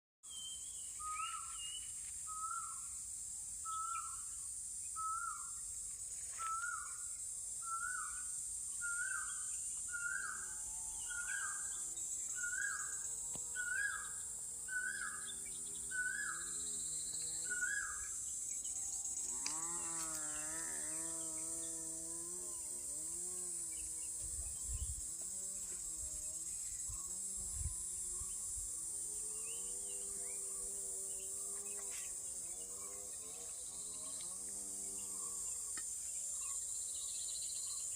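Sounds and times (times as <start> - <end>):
high-pitched insect drone: 0.6 - 37.9.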